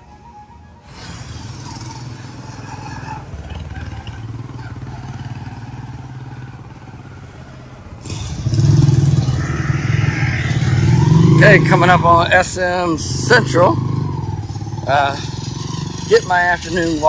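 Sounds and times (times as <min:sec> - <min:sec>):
small motorcycle engine running: 0:00.9 - 0:12.1, 0:13.0 - 0:17.0.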